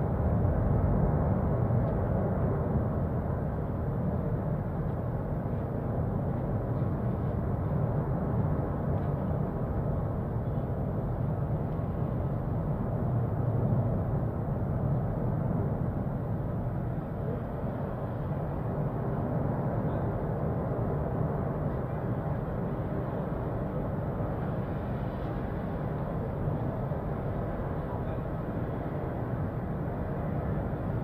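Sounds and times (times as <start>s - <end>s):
volcano low rumble: 0.0s - 31.0s.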